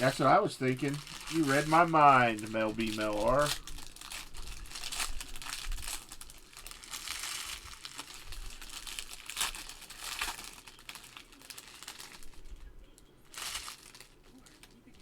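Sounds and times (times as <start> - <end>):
card pack wrappers crinkling: 0.0 - 15.0.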